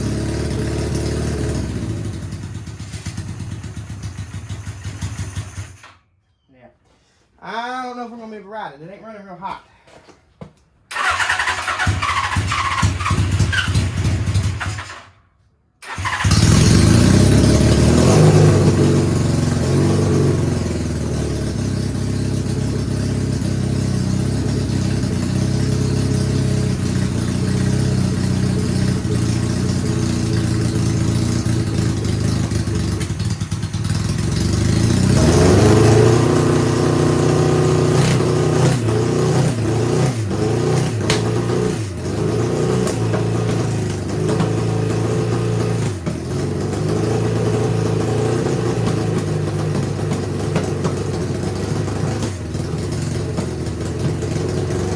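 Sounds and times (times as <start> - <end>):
motorcycle engine idling and revving: 0.0 - 6.0, 10.9 - 54.9.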